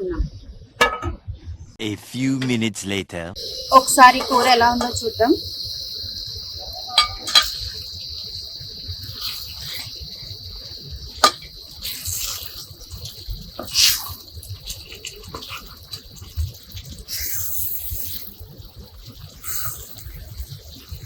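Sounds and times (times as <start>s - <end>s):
crickets chirping: 2.1s - 21.0s
curry bubbling: 3.4s - 21.0s.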